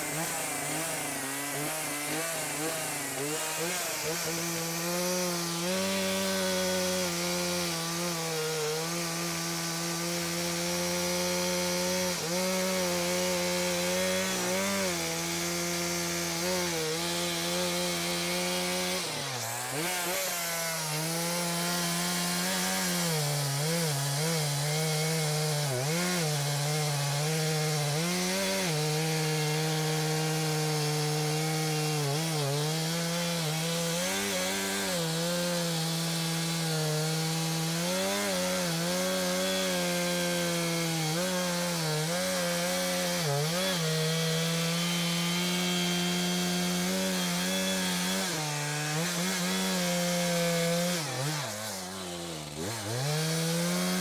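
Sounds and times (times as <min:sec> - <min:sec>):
chainsaw cutting tree trunk: 0:00.0 - 0:54.0.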